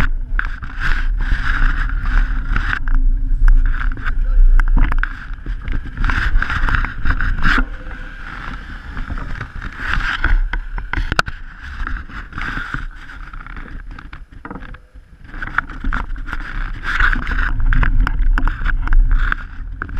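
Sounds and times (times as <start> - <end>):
bike tyres rolling on tarmac: 0.0 - 19.9.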